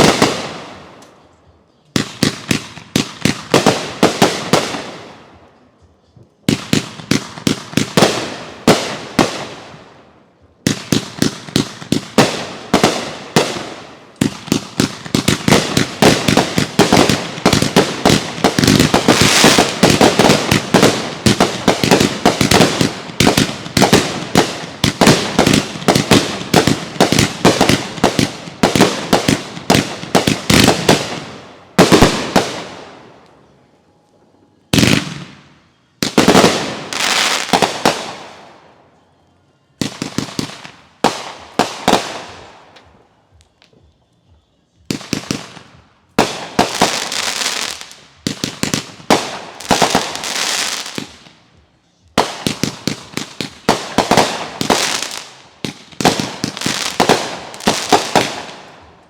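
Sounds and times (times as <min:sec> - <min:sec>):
fireworks bangs and bursts: 0:00.0 - 0:00.9, 0:01.9 - 0:05.4, 0:06.4 - 0:09.9, 0:10.6 - 0:33.1, 0:34.7 - 0:38.5, 0:39.8 - 0:42.8, 0:44.8 - 0:51.4, 0:52.0 - 0:59.0.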